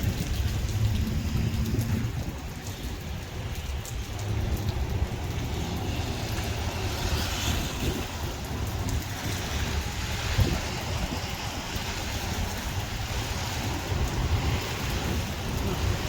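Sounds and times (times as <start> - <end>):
rain falling: 0.0 - 16.0
traffic on wet road: 0.0 - 16.0
tyre hiss on wet pavement: 0.0 - 16.0.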